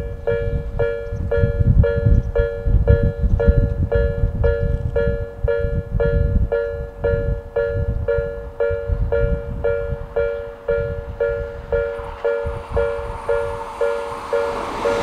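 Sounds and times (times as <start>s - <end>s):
arriving train noise: 0.0s - 15.0s.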